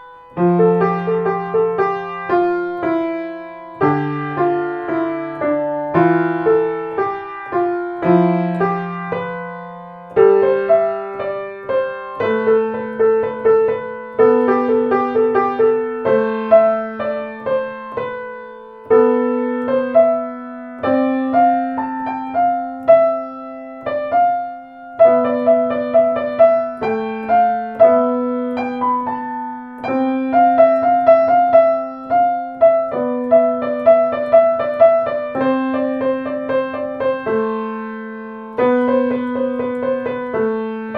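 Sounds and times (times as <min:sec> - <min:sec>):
solo piano music: 0:00.0 - 0:40.9.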